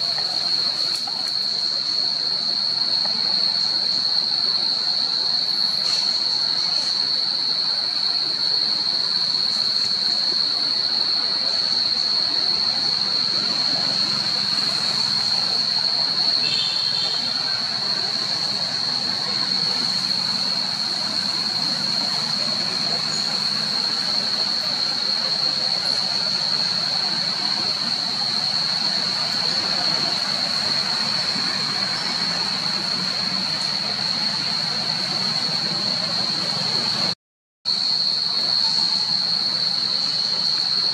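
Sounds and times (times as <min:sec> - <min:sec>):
forest background hiss: 0:00.0 - 0:40.9
insects droning: 0:00.0 - 0:40.9.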